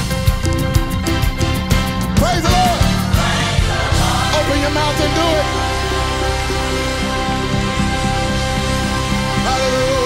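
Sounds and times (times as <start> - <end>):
instrumental gospel music: 0.0 - 10.0.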